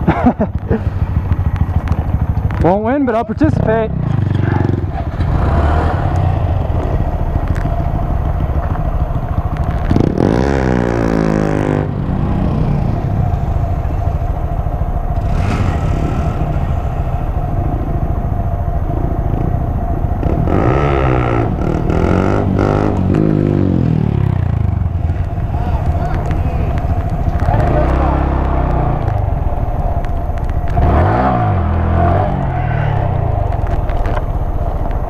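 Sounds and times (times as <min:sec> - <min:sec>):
motorcycle engine idling: 0:00.0 - 0:35.0
motorcycle engine revving: 0:00.0 - 0:35.0.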